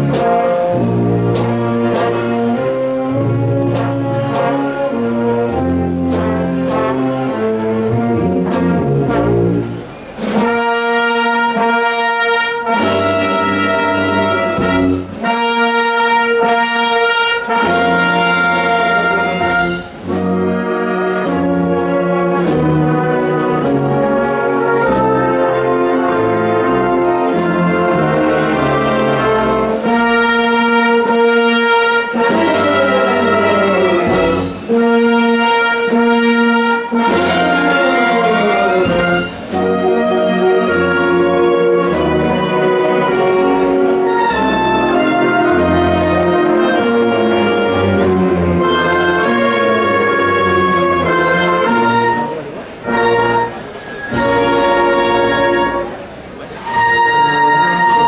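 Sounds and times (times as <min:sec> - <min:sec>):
brass band playing a march: 0:00.0 - 0:58.0.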